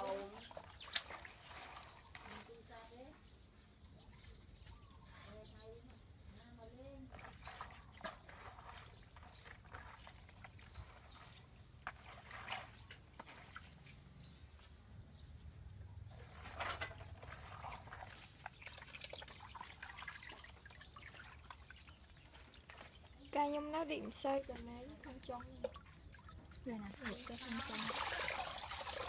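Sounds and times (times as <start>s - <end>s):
water splashing and dripping: 0.0s - 2.7s, 7.0s - 14.7s, 16.2s - 29.0s.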